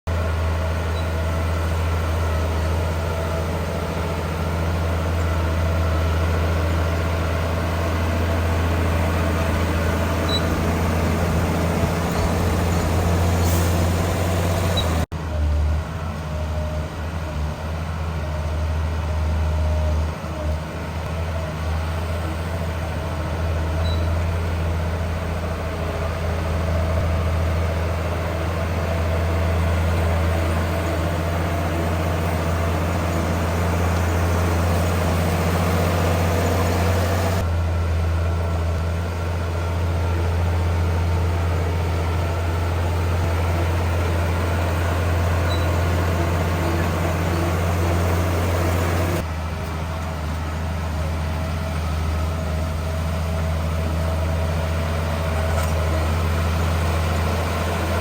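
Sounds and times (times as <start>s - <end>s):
heavy diesel engine droning: 0.1s - 58.0s.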